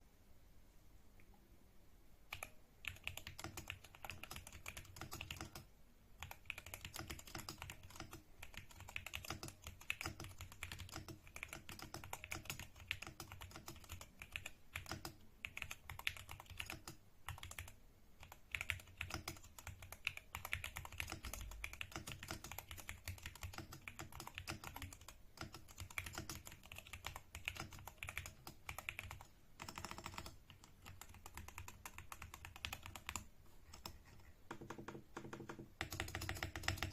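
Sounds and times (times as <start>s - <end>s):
mechanical keyboard typing: 2.3s - 36.9s.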